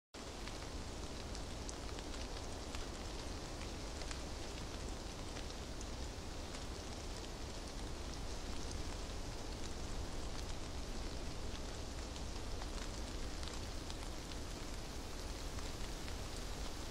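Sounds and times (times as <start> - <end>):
steady hiss: 0.2 - 16.9.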